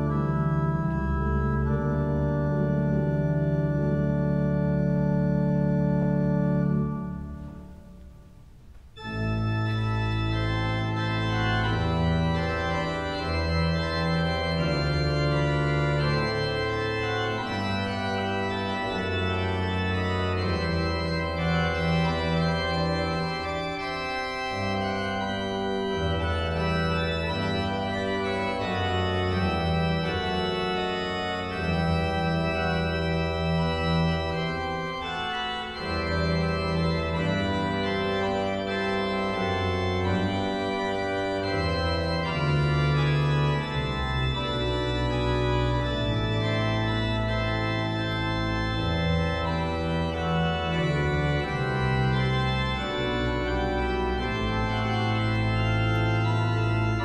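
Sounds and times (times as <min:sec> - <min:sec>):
low organ pedal notes: 0:00.0 - 0:57.0
pipe organ chords: 0:00.0 - 0:57.0.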